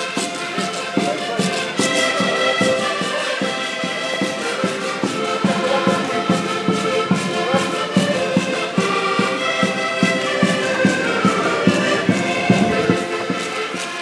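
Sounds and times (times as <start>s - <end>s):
button accordions playing together: 0.0s - 14.0s
steady beat: 0.0s - 14.0s.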